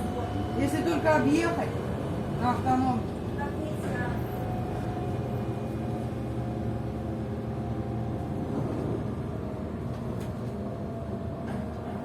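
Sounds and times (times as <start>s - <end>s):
trolleybus rumble: 0.0s - 12.0s.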